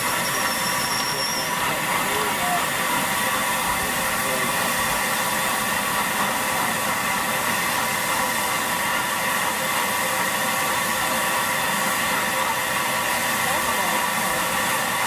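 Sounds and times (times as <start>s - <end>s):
loud hiss of steam venting: 0.0s - 15.0s.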